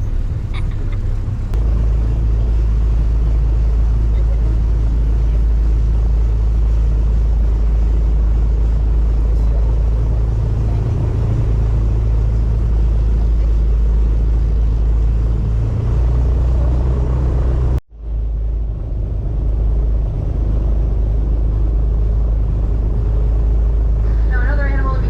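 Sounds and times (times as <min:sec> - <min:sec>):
airboat engine and propeller rumble: 0:00.0 - 0:25.0.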